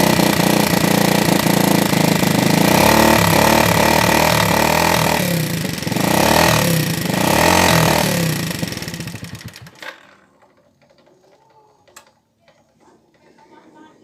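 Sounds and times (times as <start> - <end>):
clattering motorcycle engine revving: 0.0 - 11.6.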